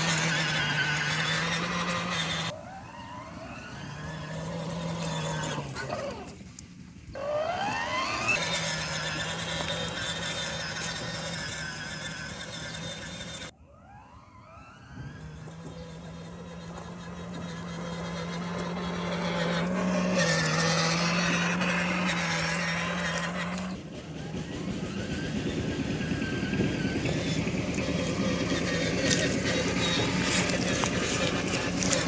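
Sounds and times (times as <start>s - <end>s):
toy motorbike engine sound effect: 0.0s - 13.5s, 14.6s - 32.0s.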